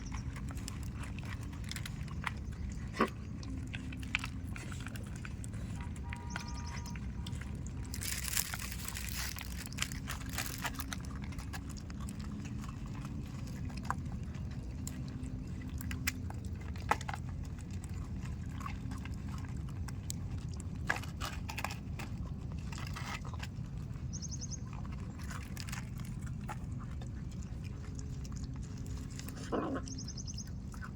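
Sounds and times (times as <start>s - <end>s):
dog chewing and crunching: 0.0s - 30.9s
low background rumble: 0.0s - 30.9s.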